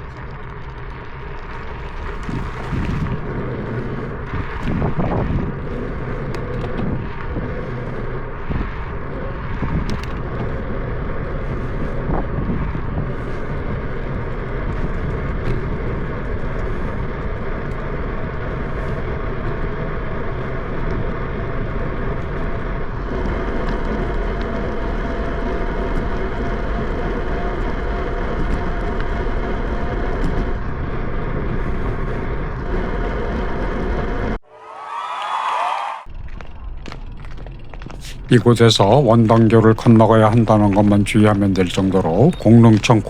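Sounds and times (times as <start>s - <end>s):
wind rumble on microphone: 0.0s - 34.4s, 36.0s - 43.0s
bicycle tyre noise: 0.0s - 43.0s.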